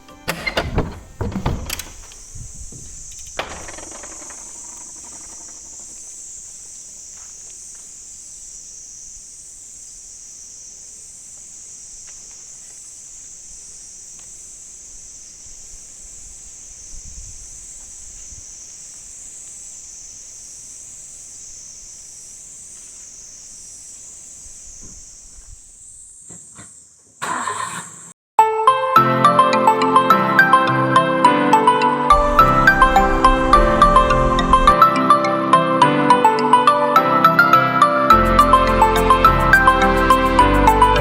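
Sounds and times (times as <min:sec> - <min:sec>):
insects shrilling: 0:01.0 - 0:28.1, 0:31.6 - 0:35.6, 0:36.2 - 0:41.0.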